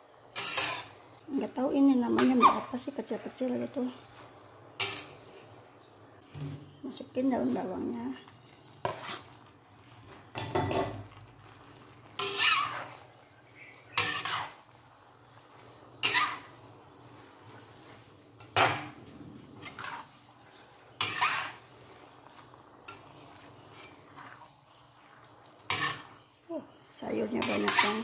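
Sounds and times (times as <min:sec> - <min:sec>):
metal spatula scraping a wok: 0:00.2 - 0:05.5, 0:08.6 - 0:26.4, 0:27.2 - 0:28.0.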